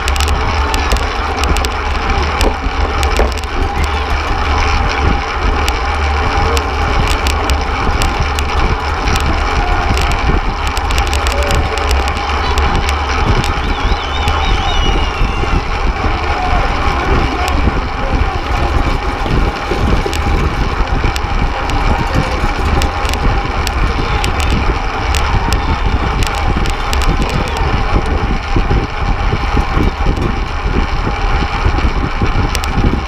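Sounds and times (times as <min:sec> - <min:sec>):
bike chain and tyres whirring: 0:00.0 - 0:33.0
light ticks and clicks: 0:00.0 - 0:33.0
wind buffeting microphone: 0:00.0 - 0:33.0.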